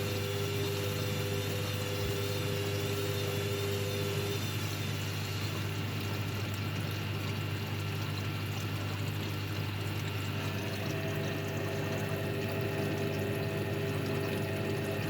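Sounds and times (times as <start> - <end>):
washing machine low hum: 0.0 - 15.0
water pouring and splashing: 0.0 - 15.0.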